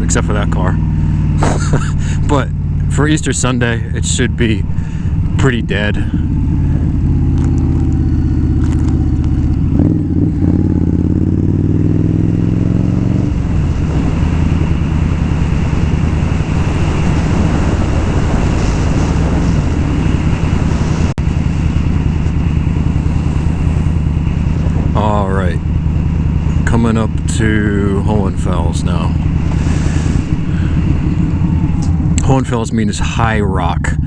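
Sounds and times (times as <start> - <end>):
motorcycle engine accelerating: 0.0 - 34.0
wind and road noise: 0.0 - 34.0.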